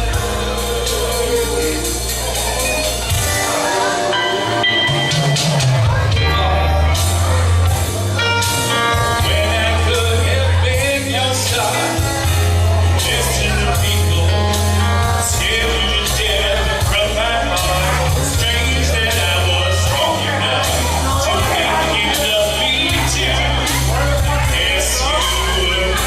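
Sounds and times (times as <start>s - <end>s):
heavy bass line: 0.0s - 26.0s
rock music with singer: 0.0s - 26.0s
steady drum beat: 0.0s - 26.0s.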